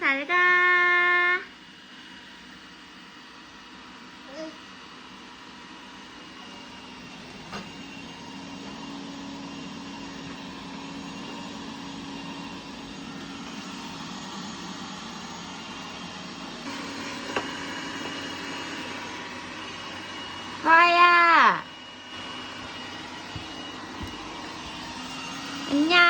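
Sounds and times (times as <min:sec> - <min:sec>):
robot vacuum cleaner humming: 0:00.0 - 0:26.0.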